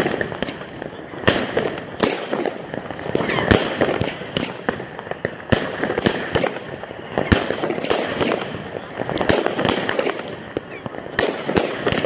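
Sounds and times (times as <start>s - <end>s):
crackling hiss of fireworks: 0.0s - 12.0s
fireworks bangs: 0.0s - 12.0s.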